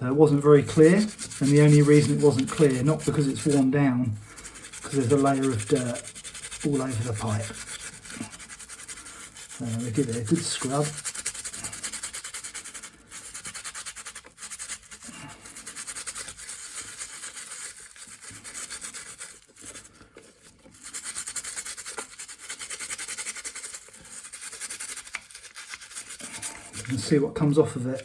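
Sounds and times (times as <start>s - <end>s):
toothbrush scrubbing pipe bowl: 0.0s - 28.0s.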